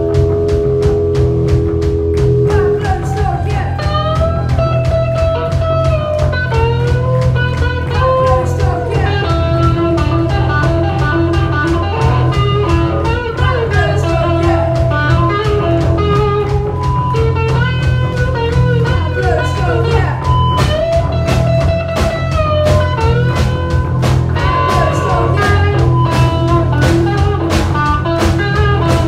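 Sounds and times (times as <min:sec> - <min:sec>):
drums keeping steady beat: 0:00.0 - 0:29.0
electric guitar: 0:00.0 - 0:29.0
lead melody with bending notes: 0:00.0 - 0:29.0.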